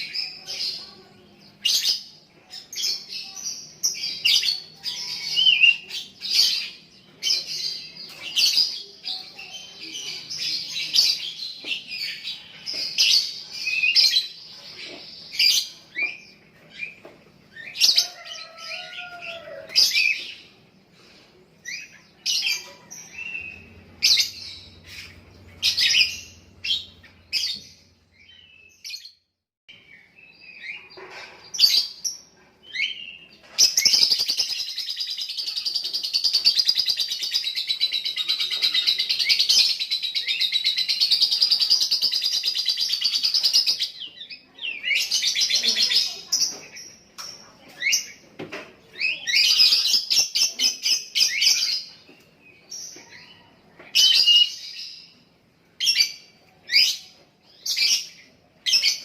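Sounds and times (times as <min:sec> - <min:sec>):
lovebird chirps and chatter: 0:00.0 - 0:59.0.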